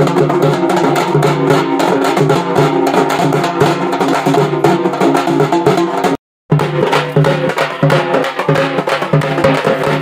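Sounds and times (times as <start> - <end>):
barrel drums beaten with sticks: 0.0 - 10.0.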